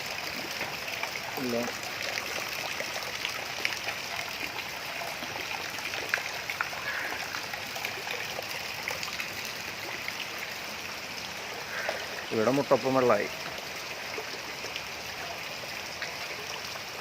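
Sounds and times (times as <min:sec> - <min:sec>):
water drips and splashes: 0:00.0 - 0:17.0
water rushing: 0:00.0 - 0:17.0.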